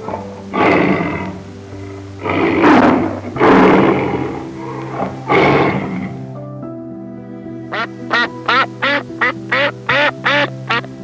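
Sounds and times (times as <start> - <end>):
harsh animal calls: 0.0 - 6.2, 7.7 - 10.9
background music held notes: 0.0 - 11.0.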